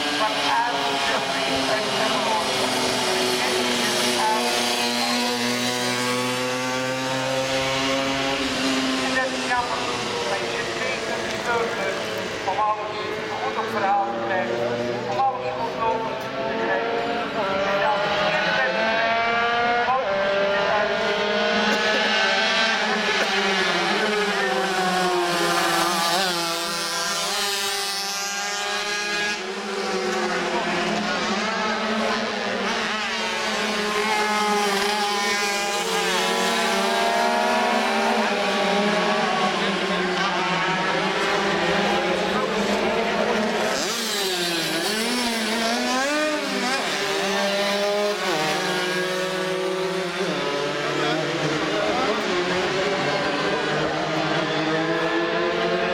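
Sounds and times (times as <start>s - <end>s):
racing mopeds passing at high revs: 0.0s - 55.9s.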